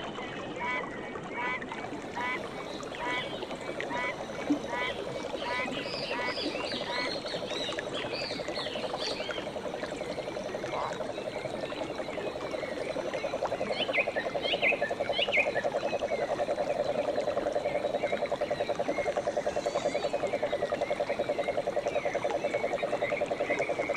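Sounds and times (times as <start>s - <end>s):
frogs pulsing trill: 1.4s - 23.9s.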